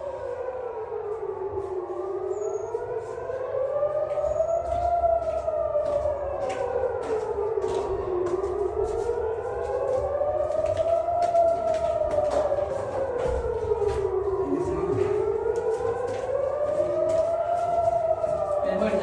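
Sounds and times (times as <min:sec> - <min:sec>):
air raid siren wailing: 0:00.0 - 0:19.0.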